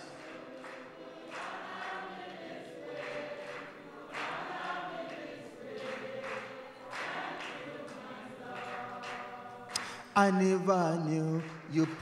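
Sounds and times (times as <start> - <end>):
congregation singing: 0.0 - 12.0
leader singing: 0.0 - 12.0.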